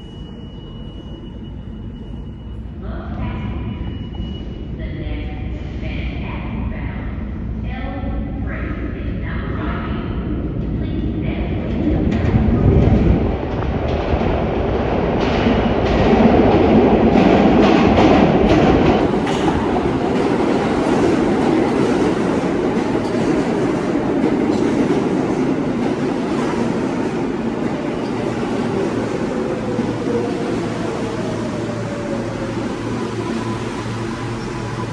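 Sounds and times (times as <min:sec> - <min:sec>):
subway train rumbling: 0:00.0 - 0:34.9.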